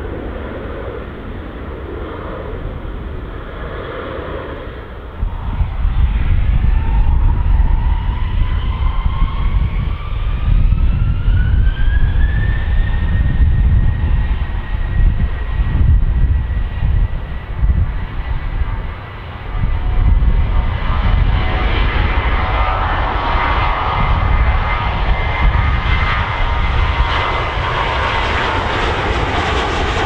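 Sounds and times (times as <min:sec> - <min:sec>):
deep engine rumble: 0:00.0 - 0:30.0
jet engines whining: 0:00.0 - 0:30.0.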